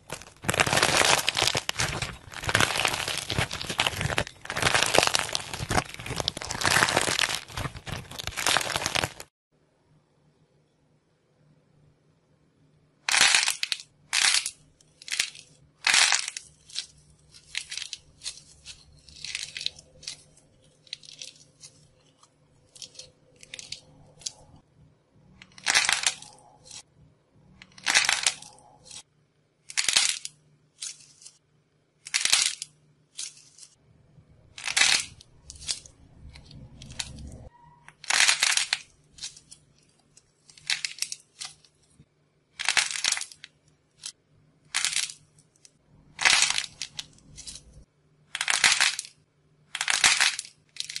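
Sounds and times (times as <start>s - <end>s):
clay balls cracking: 0.0s - 9.3s, 13.1s - 24.6s, 25.3s - 26.9s, 27.5s - 31.4s, 32.0s - 33.8s, 34.5s - 51.0s.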